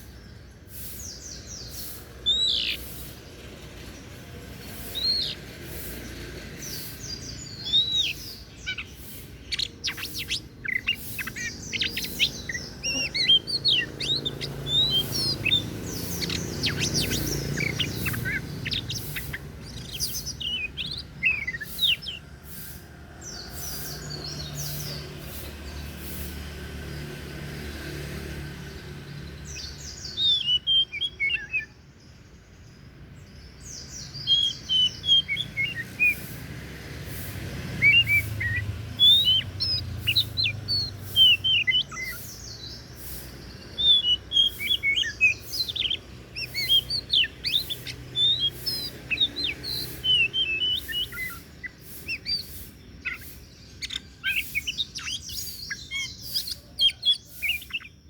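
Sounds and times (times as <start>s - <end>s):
bird singing chirps: 0.0s - 58.0s.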